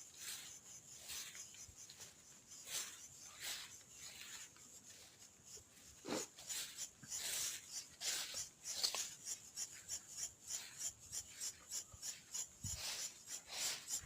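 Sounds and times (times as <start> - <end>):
scraping through dry brush: 0.0 - 14.0.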